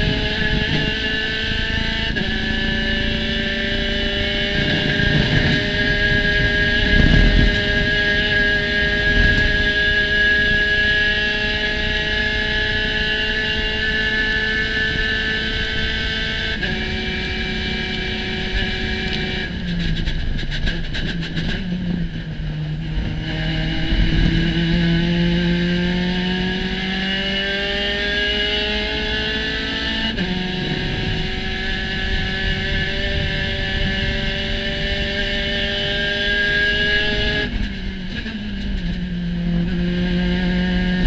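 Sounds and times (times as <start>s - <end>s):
race car engine accelerating: 0.0s - 41.0s.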